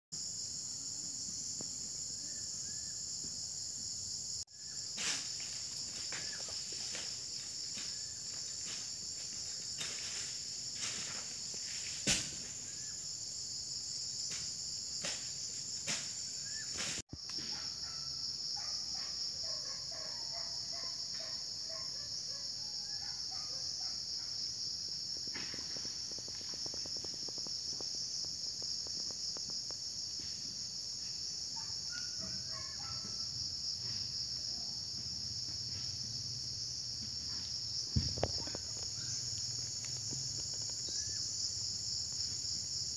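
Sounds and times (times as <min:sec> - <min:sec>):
insect chorus trilling: 0:00.2 - 0:42.9.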